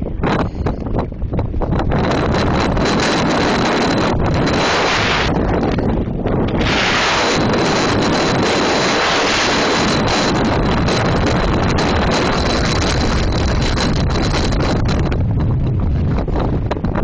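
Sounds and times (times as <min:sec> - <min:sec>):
blizzard wind on microphone: 0:00.0 - 0:17.0.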